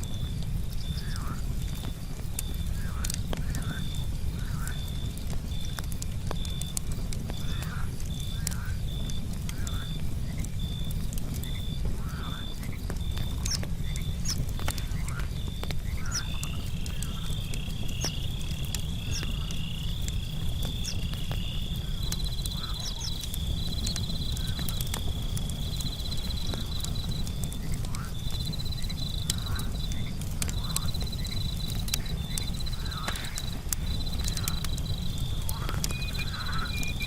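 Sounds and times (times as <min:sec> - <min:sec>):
campfire crackling: 0:00.0 - 0:37.0
frogs calling: 0:00.0 - 0:37.0
insects chirping: 0:00.0 - 0:37.0
pulsing insect chirp: 0:00.0 - 0:37.0.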